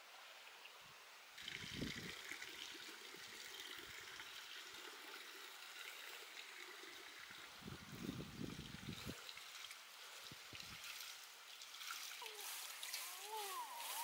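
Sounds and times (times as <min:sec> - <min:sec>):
water trickling: 0:00.2 - 0:14.0.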